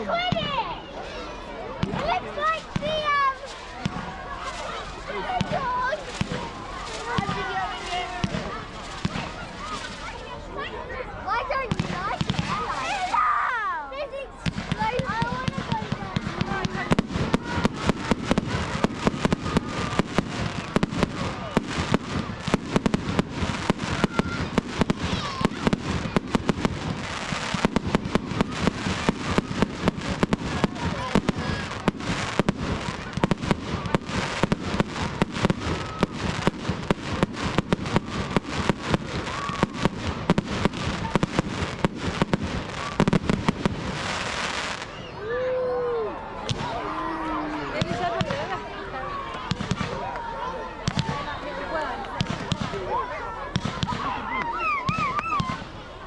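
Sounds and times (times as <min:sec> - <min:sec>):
fireworks bangs and crackles: 0:00.0 - 0:45.6, 0:46.4 - 0:56.0.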